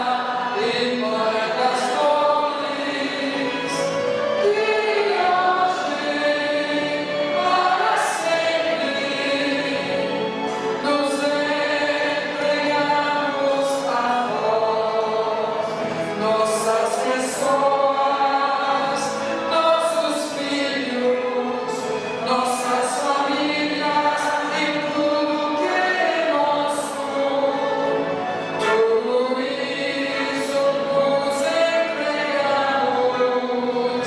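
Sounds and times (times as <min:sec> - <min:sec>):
group singing a hymn: 0:00.0 - 0:34.0.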